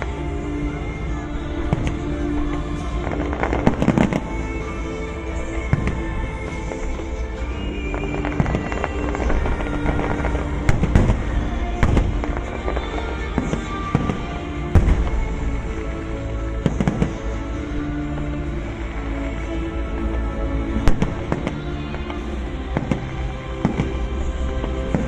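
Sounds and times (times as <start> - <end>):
fireworks bangs and crackling: 0.0 - 25.0
music: 0.0 - 25.0.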